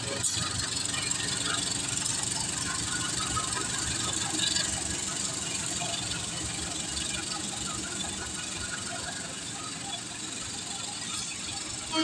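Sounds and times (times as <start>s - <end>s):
diesel locomotive running: 0.0s - 12.0s
wheels rattling over rails: 0.0s - 12.0s.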